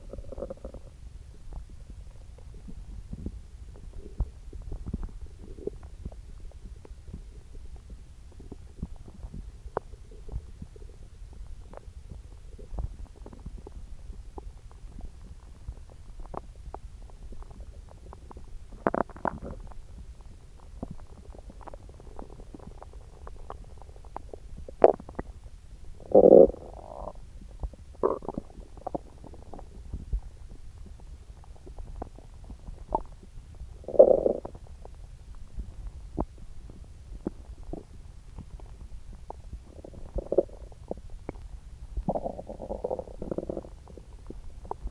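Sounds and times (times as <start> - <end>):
low steady hum: 0.0 - 44.9
stomach growling and gurgling: 0.0 - 44.9.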